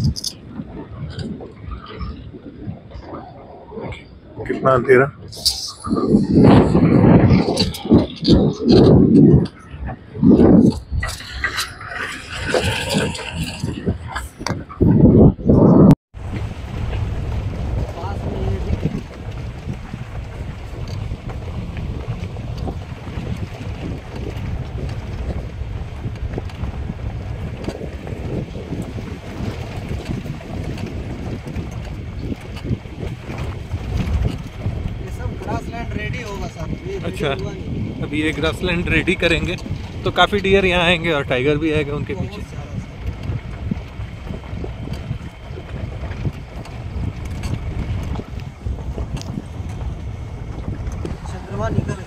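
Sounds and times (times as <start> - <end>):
vehicle rumbling on dirt track: 0.0 - 52.0
wind buffeting microphone: 0.0 - 52.0.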